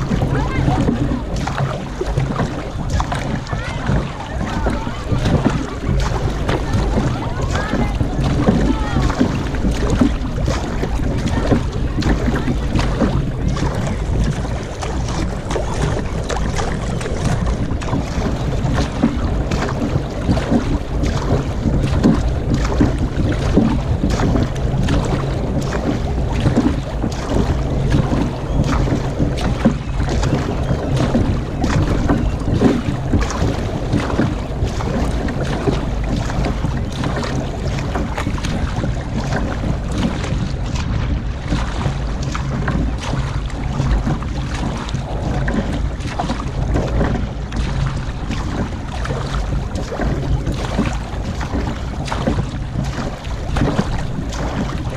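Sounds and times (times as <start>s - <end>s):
paddle blades splashing: 0.0s - 54.9s
water rushing past hull: 0.0s - 54.9s
wind buffeting microphone: 0.0s - 54.9s.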